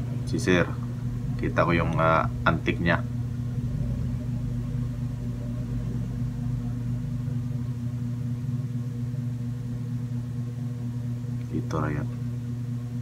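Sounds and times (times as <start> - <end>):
appliance humming: 0.0 - 13.0.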